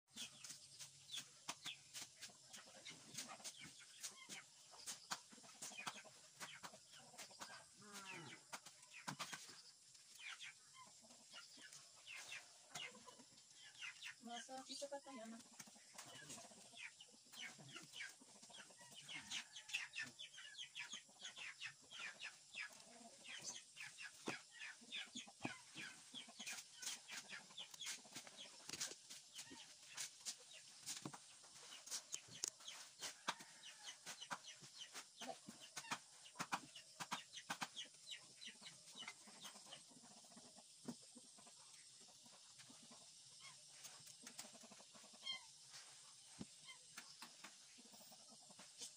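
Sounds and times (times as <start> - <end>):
chicken clucking: 0.1 - 48.9.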